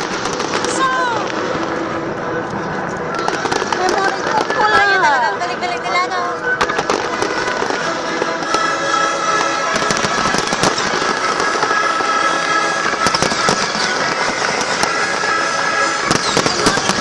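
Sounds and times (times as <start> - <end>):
fireworks crackling and popping: 0.0 - 5.8, 6.5 - 17.0
music playing: 0.0 - 17.0.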